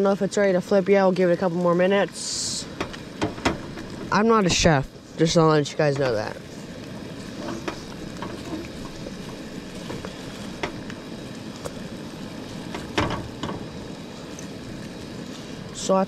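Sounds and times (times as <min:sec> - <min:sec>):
eggs and bacon sizzling: 0:00.0 - 0:16.0.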